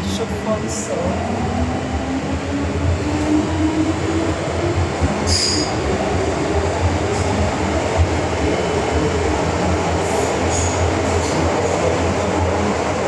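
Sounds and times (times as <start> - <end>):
metro car running rumble: 0.0 - 13.0.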